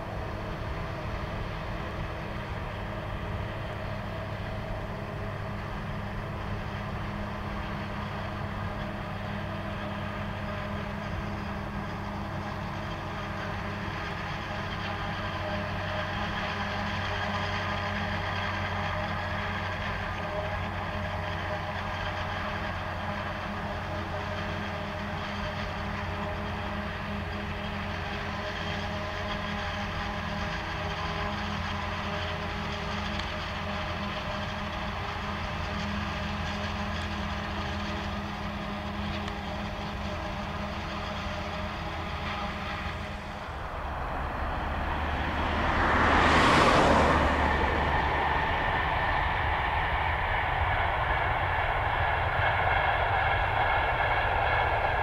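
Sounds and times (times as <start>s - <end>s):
harvester engine drone: 0.0s - 55.0s
steady whining tones: 0.0s - 55.0s.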